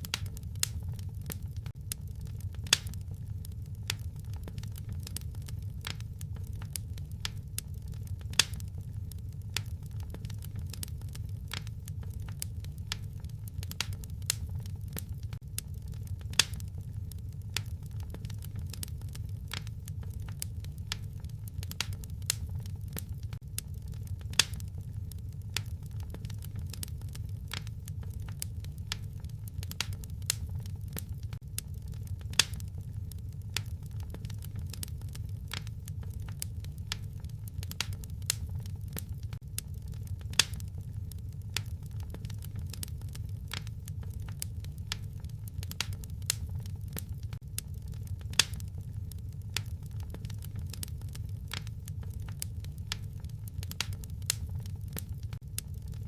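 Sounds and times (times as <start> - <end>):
low steady rumble: 0.0 - 56.0
wood fire crackling and popping: 0.0 - 56.0.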